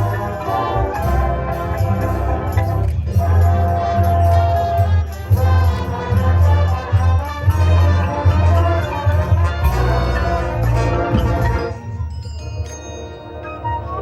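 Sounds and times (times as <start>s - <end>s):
marching band playing: 0.0s - 12.4s.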